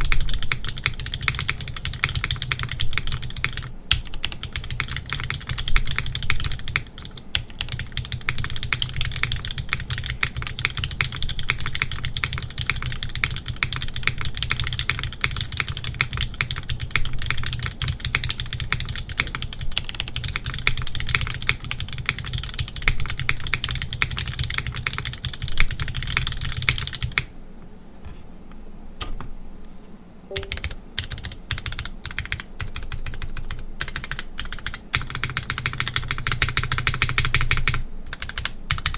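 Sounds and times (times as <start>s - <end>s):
mechanical keyboard typing: 0.0s - 27.3s, 30.3s - 38.9s.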